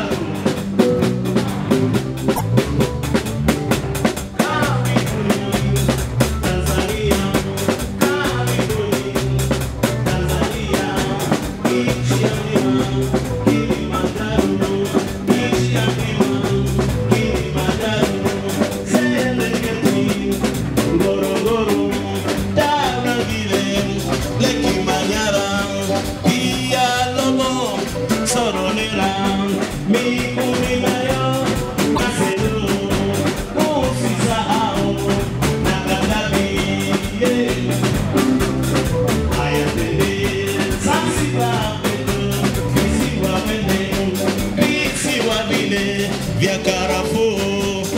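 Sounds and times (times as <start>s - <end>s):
electric guitar: 0.0s - 47.9s
steady drum beat: 0.0s - 47.9s.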